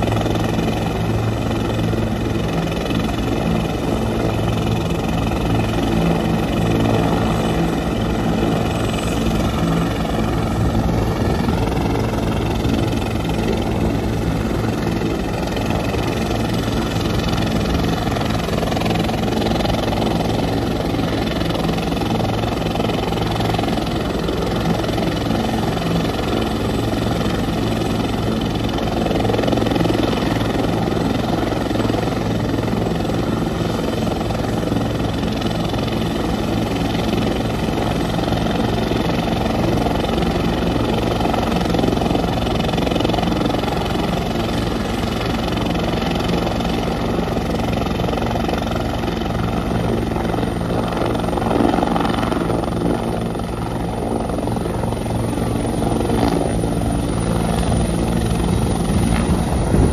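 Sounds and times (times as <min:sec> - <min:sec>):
helicopter engine and rotor drone: 0:00.0 - 0:59.9
helicopter turbine whine: 0:00.0 - 0:59.9.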